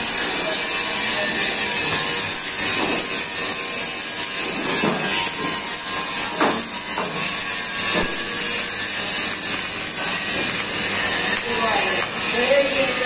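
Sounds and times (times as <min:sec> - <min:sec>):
steady hissing workshop noise: 0:00.0 - 0:13.0.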